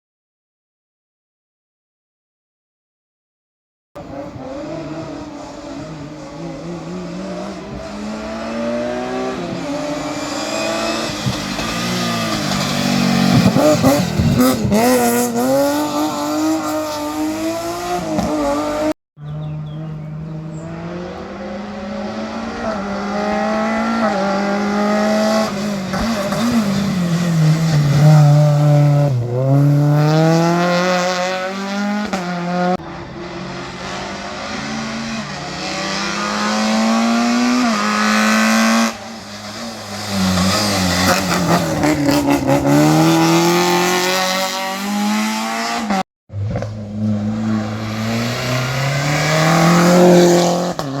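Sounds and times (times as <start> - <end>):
race car engines revving: 4.0 - 51.0.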